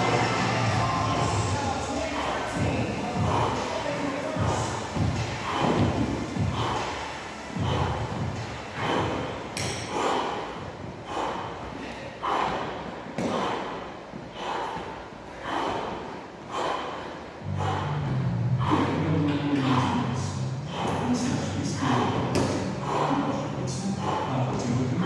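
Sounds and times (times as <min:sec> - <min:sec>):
heavy rhythmic breathing: 0:00.0 - 0:25.0.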